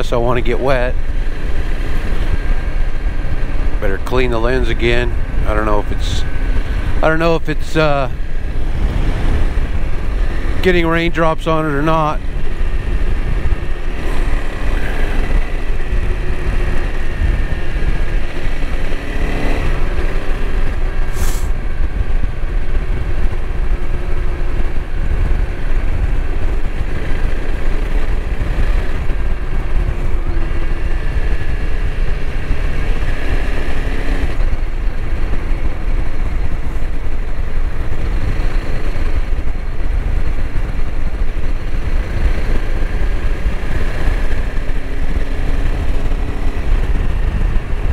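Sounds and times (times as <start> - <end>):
motorcycle engine cruising: 0.0 - 47.9
wind buffeting microphone: 0.0 - 47.9.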